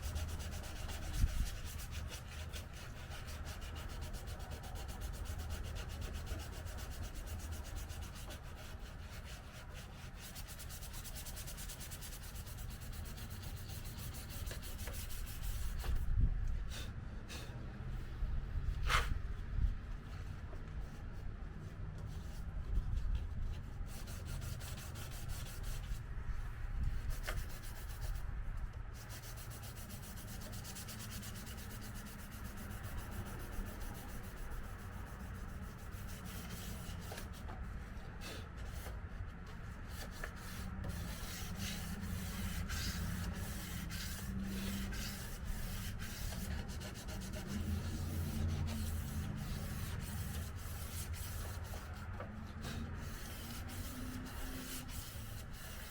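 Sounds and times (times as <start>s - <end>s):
sandpaper rubbing on metal panel: 0.0s - 16.1s, 22.1s - 26.0s, 27.0s - 28.2s, 28.9s - 37.5s, 38.2s - 55.9s.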